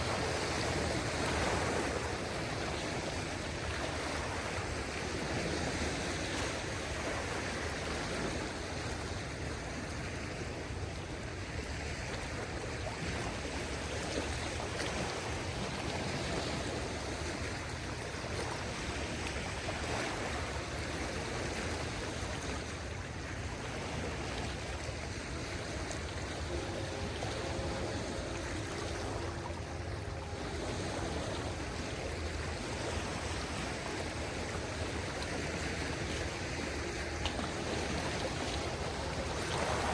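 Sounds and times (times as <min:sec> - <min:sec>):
gentle waves on a beach: 0:00.0 - 0:39.9.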